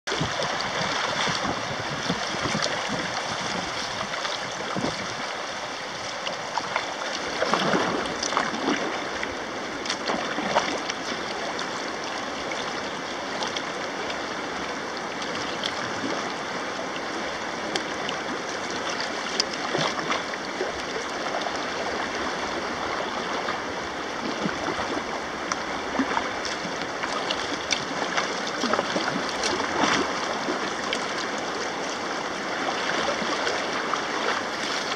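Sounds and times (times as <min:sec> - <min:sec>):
river water rushing: 0:00.1 - 0:34.9
water splashes: 0:00.1 - 0:34.9.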